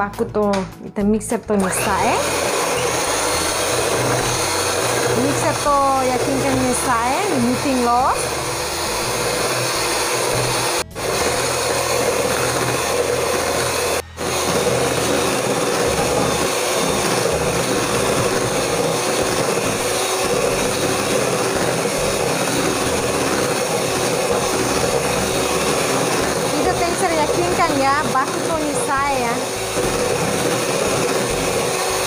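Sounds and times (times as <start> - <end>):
electric hand mixer whipping: 1.5 - 32.0.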